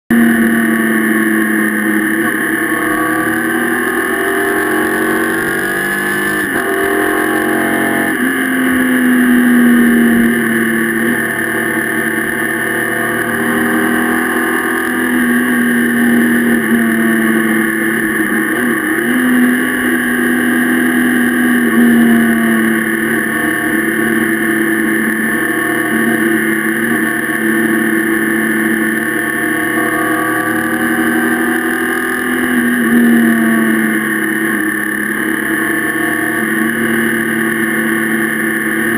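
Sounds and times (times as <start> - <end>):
motorcycle engine revving while riding: 0.1 - 38.9.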